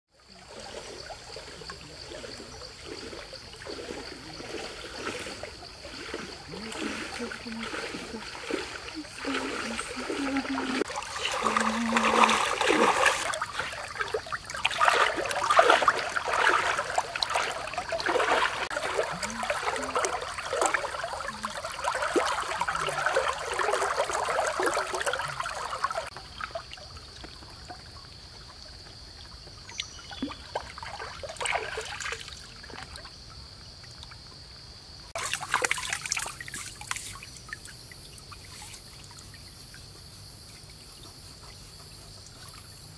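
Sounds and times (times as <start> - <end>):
water splashing: 0.2 - 28.6, 29.8 - 33.2, 35.1 - 39.7.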